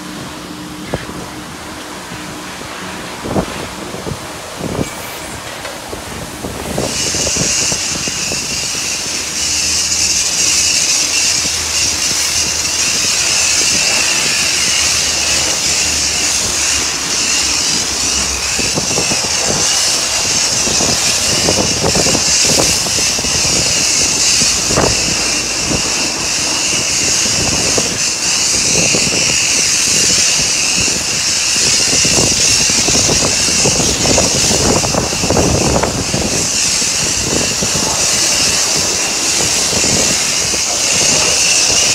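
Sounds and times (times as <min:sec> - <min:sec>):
foam lance spraying hiss: 0:04.4 - 0:41.9
spray spattering on car body: 0:05.8 - 0:41.9.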